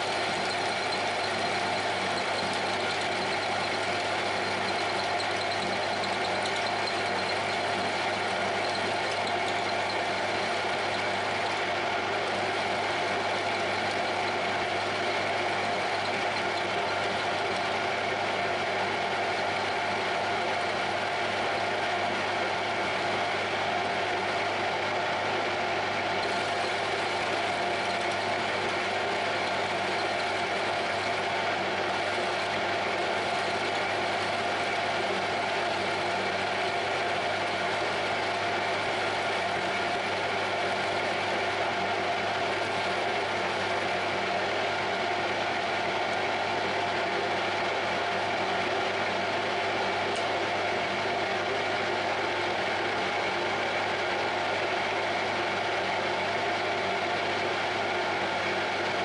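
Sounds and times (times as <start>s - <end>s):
metal lathe whining: 0.0s - 55.7s.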